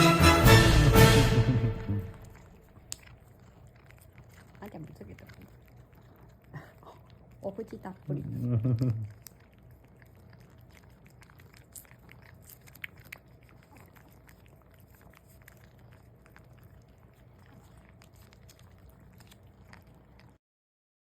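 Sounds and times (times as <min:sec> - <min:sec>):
cat chewing and licking: 0:00.0 - 0:20.4
low room hum: 0:00.0 - 0:20.4.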